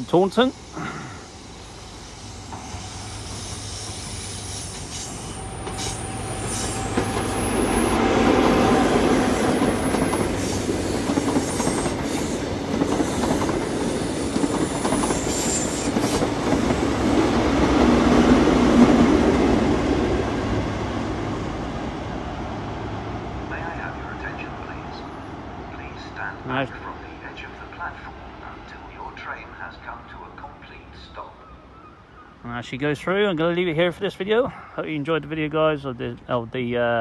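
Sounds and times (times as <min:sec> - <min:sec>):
train wheel rumble: 0:00.0 - 0:30.8
train engine hum: 0:00.0 - 0:36.9.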